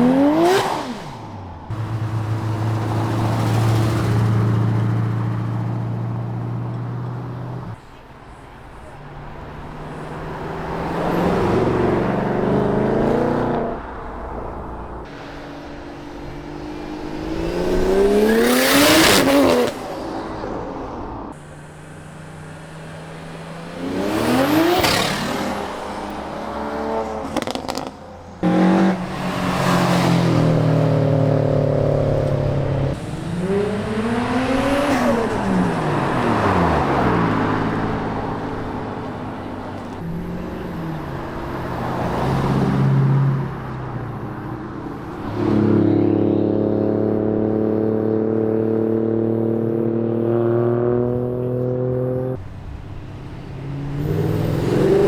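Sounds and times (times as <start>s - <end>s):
cars idling: 0.0s - 47.8s, 51.1s - 55.0s
cars accelerating hard: 0.0s - 55.0s.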